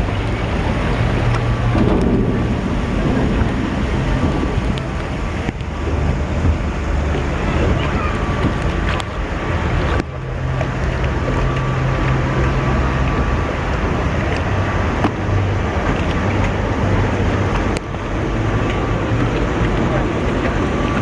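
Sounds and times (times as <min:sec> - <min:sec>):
low mechanical hum: 0:00.0 - 0:21.0
rushing water: 0:00.0 - 0:21.0
wind noise on microphone: 0:00.0 - 0:21.0.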